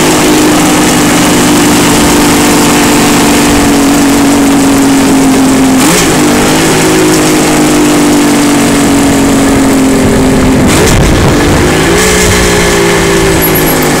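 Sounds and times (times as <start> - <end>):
motorcycle engine running: 0.0 - 14.0
wind rush on microphone: 0.4 - 14.0.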